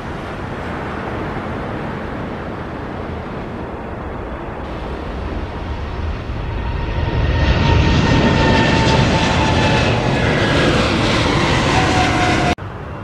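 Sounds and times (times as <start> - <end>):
jet engines roaring with whine: 0.0 - 13.0.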